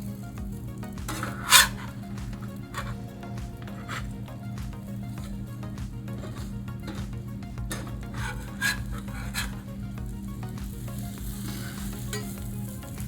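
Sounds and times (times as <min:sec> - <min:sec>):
eggs sizzling on griddle: 0:00.0 - 0:13.0
spatula scrapes on griddle: 0:00.8 - 0:10.0, 0:10.6 - 0:13.0.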